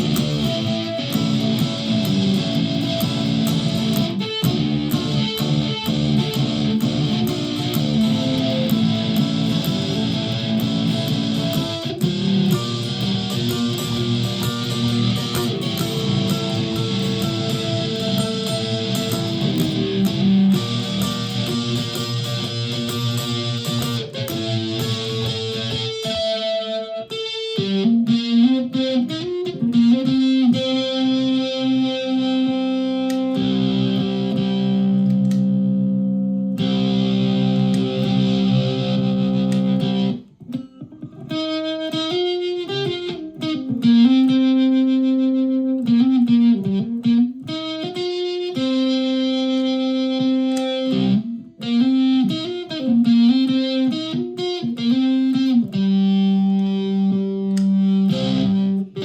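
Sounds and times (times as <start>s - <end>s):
electric ukulele with pitch bends: 0.0s - 59.0s.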